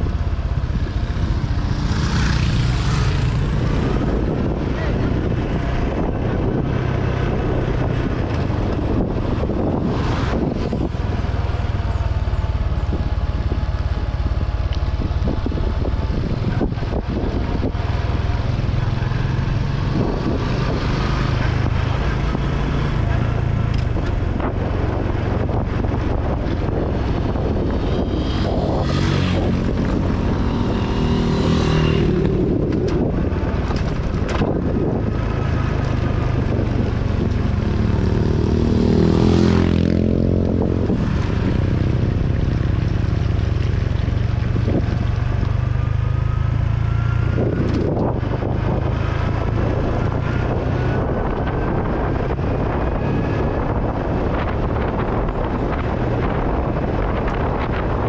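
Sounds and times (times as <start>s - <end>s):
another motorcycle approaching: 0.0s - 58.0s
motorcycle engine running: 0.0s - 58.0s.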